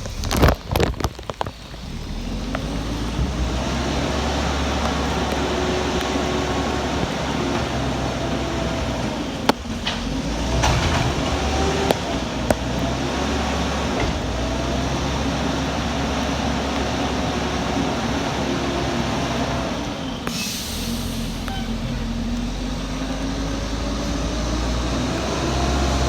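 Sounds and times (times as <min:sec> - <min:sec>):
garbage truck diesel engine running: 0:00.0 - 0:26.0
heavy rain hissing: 0:00.0 - 0:26.0.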